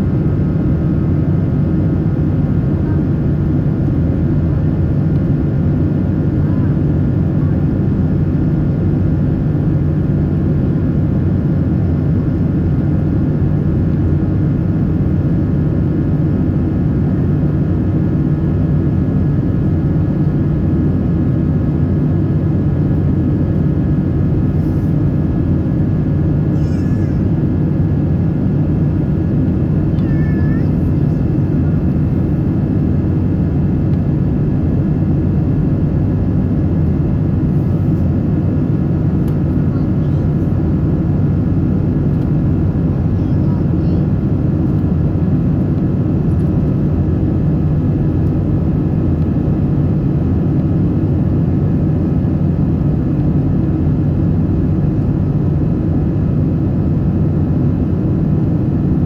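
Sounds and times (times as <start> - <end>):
aircraft cabin engine rumble: 0.0 - 59.0.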